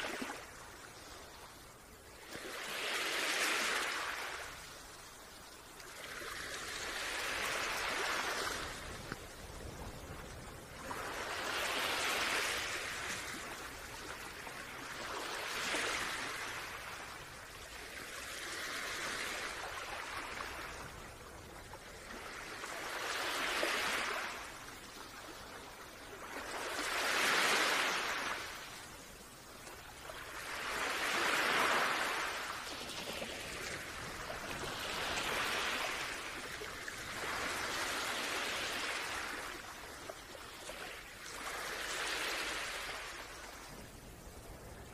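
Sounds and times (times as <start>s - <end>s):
small waves washing in: 0.0s - 44.9s.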